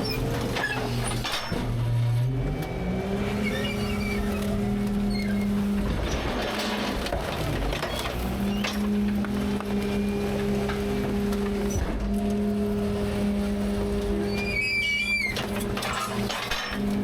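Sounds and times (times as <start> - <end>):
garbage truck hydraulics and engine: 0.0 - 17.0.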